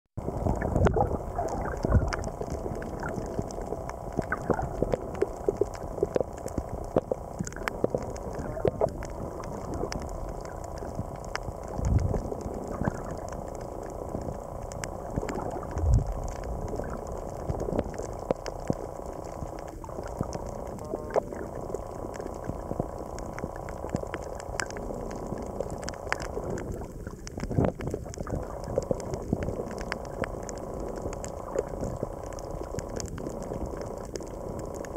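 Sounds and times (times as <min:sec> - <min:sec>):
crackle of sharp clicks: 0:00.2 - 0:34.9
low watery rumble: 0:00.2 - 0:34.9.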